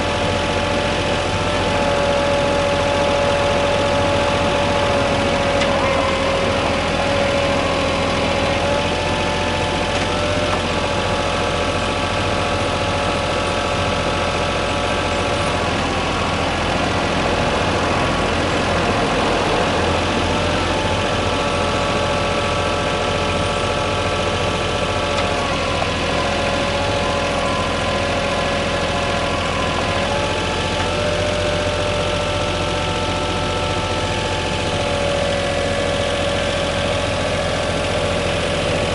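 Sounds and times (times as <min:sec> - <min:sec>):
diesel engine idling: 0:00.0 - 0:38.9
engine whine: 0:00.0 - 0:38.9.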